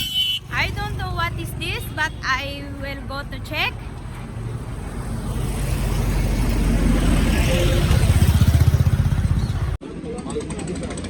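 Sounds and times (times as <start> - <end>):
road rumble: 0.0 - 11.0
vehicle engine: 0.4 - 11.0.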